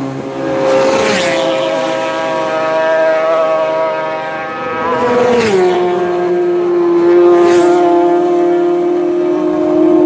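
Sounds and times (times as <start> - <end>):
racing motorcycle passing at speed: 0.0 - 10.0.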